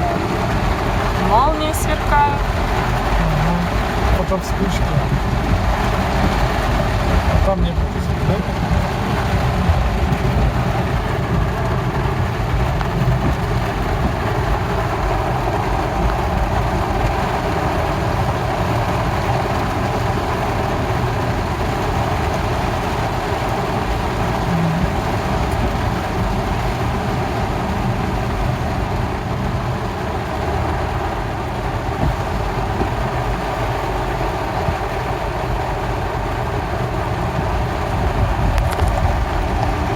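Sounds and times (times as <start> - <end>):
car engine and road rumble: 0.0 - 39.9
heavy rain: 0.0 - 39.9.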